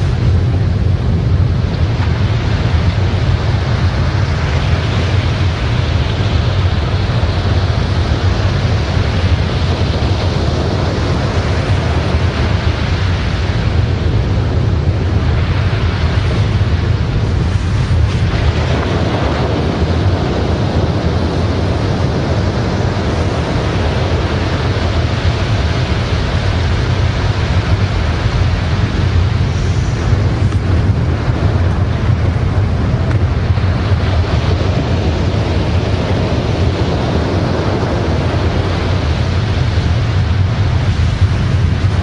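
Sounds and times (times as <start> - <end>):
deep low rumble: 0.0 - 42.0
loud rushing noise: 0.0 - 42.0.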